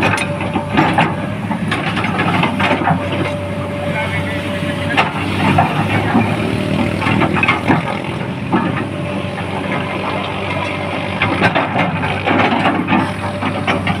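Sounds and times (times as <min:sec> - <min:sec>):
knocks and clatter: 0:00.0 - 0:03.7, 0:04.8 - 0:14.0
heavy engine idling: 0:00.0 - 0:14.0.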